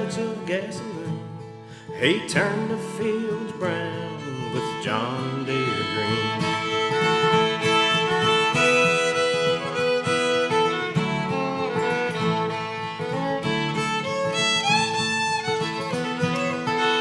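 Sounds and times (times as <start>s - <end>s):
acoustic guitar: 0.0s - 17.0s
fiddle playing melody: 0.0s - 17.0s.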